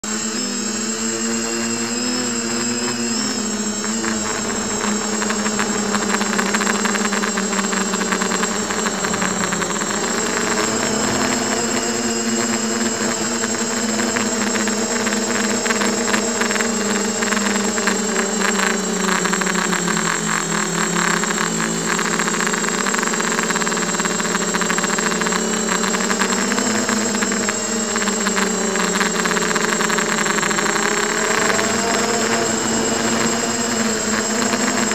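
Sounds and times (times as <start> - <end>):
quadcopter motors buzzing: 0.0 - 34.9.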